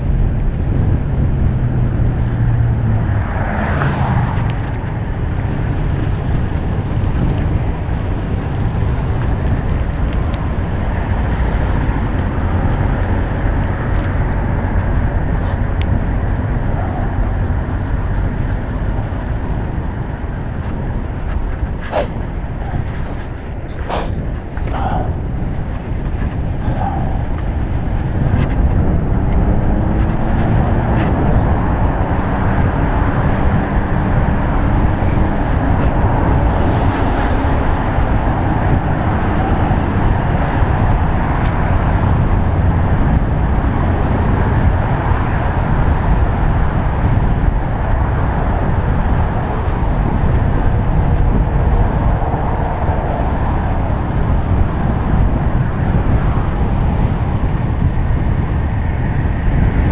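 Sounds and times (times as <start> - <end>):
road traffic noise: 0.0 - 59.9
wind rushing over microphone: 0.0 - 59.9.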